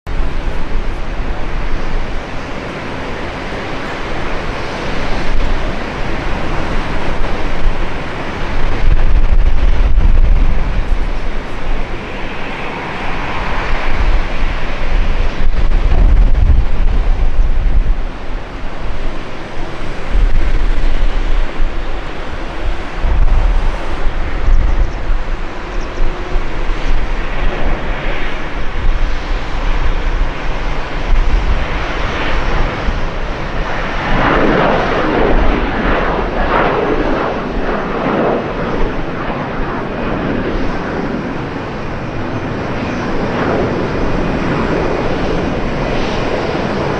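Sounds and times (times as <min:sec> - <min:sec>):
jet engines roaring at takeoff: 0:00.1 - 0:46.9
wind buffeting microphone: 0:00.1 - 0:46.9.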